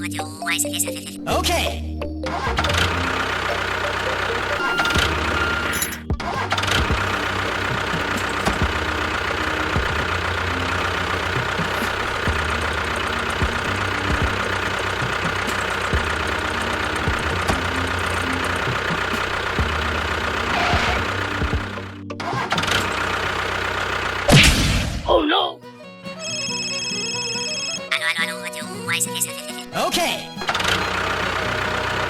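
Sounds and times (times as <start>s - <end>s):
engine running: 1.4s - 32.0s.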